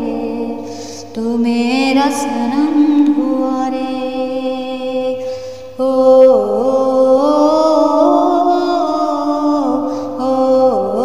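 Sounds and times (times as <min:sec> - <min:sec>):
woman singing long notes: 0:00.0 - 0:11.0.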